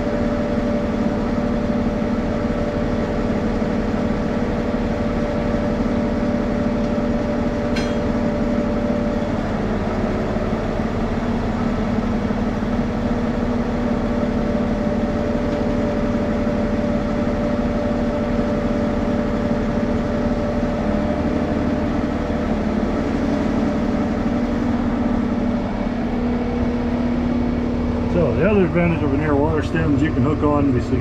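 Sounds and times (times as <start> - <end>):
engine droning steadily: 0.0 - 31.0.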